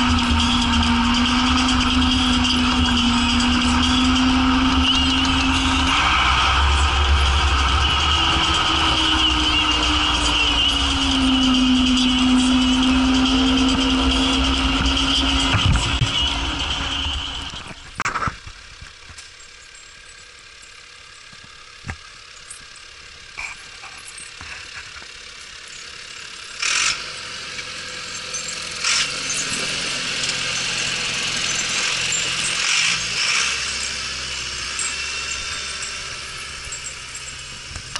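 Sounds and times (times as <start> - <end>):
sharp knocks and rattles: 0.0 - 9.2, 11.0 - 37.9
tractor diesel engine running: 0.0 - 37.9.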